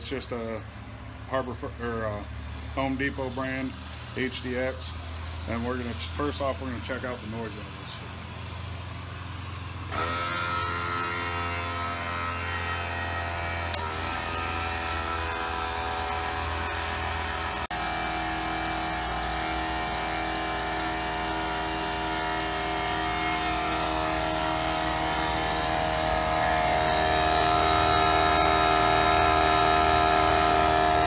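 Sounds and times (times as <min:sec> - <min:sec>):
air compressors running: 0:00.0 - 0:31.0
compressor hum with whine: 0:00.0 - 0:31.0.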